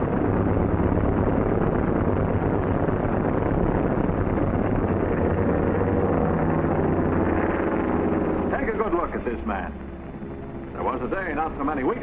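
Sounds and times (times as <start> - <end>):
propeller plane engines droning: 0.0 - 12.0.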